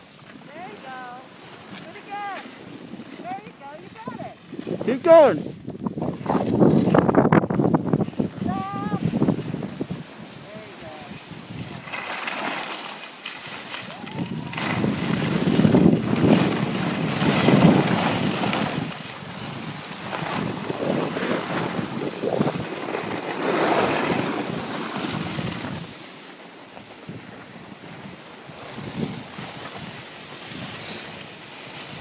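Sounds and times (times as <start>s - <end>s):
skis scraping on snow: 0.0s - 32.0s
wind on microphone: 0.4s - 12.0s, 13.8s - 26.1s, 26.9s - 32.0s.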